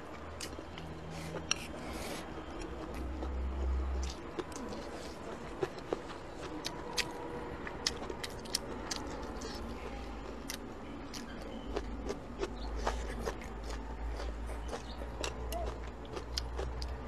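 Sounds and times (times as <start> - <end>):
chewing with mouth clicks: 0.3 - 17.0.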